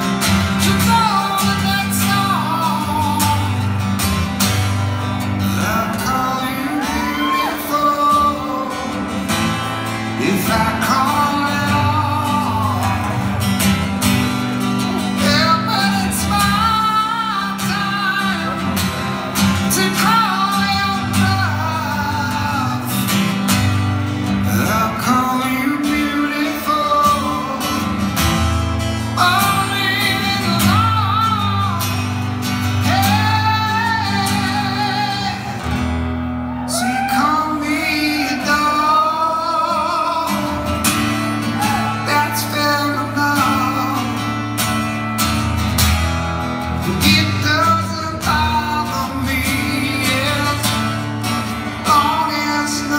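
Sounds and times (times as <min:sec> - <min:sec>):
acoustic guitar: 0:00.0 - 0:52.9
man singing rock ballad: 0:00.0 - 0:52.9.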